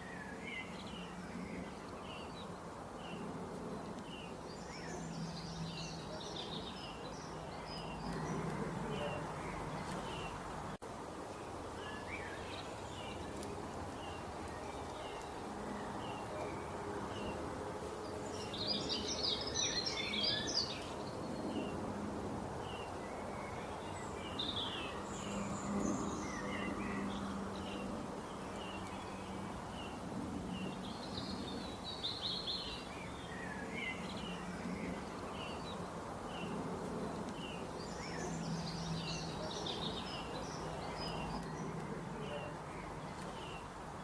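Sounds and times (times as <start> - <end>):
small birds chirping: 0.0 - 21.9, 22.6 - 44.0
steady background noise: 0.0 - 44.0.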